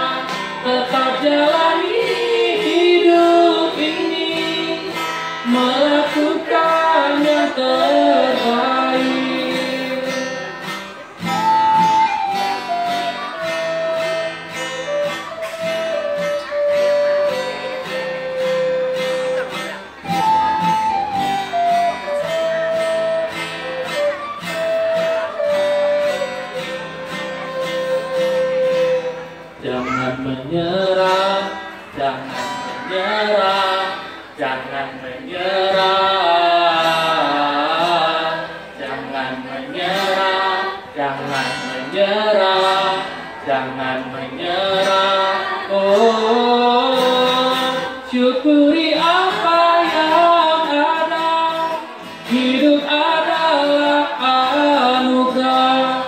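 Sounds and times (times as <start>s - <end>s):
man singing: 0.0s - 14.9s, 20.2s - 56.0s
acoustic guitar strumming: 0.0s - 56.0s.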